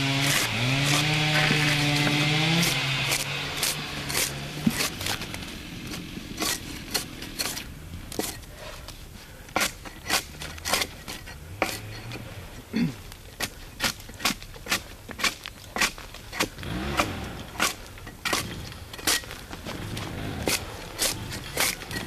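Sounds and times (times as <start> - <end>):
bark spud scraping a log: 0.0 - 22.0.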